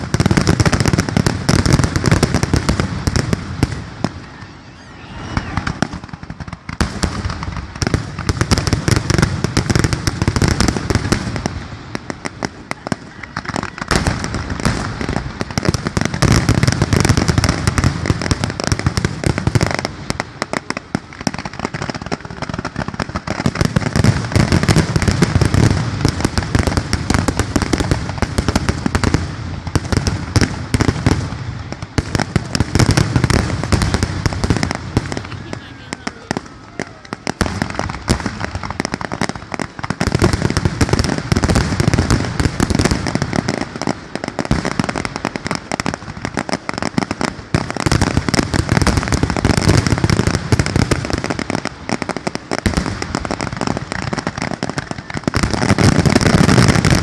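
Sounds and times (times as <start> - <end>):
fireworks bursts and crackling: 0.0 - 57.0.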